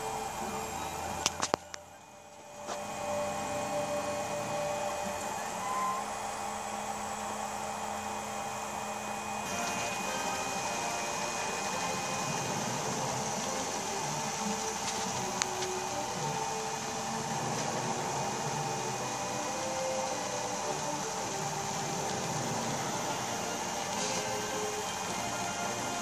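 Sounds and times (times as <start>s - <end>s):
steady hum: 0.0s - 26.0s
stepper motors whining: 0.0s - 26.0s.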